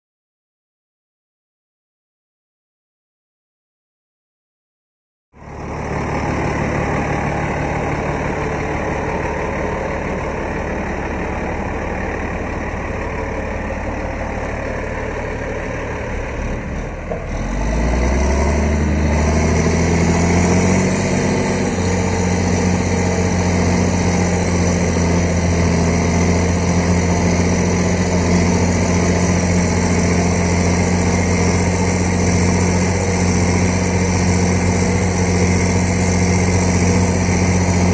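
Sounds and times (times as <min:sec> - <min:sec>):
large diesel engine running: 0:05.4 - 0:37.9.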